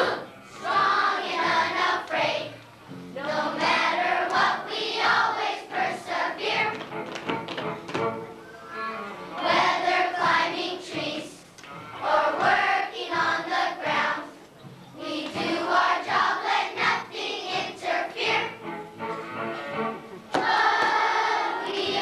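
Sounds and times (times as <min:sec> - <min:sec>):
children's choir singing: 0:00.0 - 0:07.0, 0:09.3 - 0:18.7, 0:20.3 - 0:22.0.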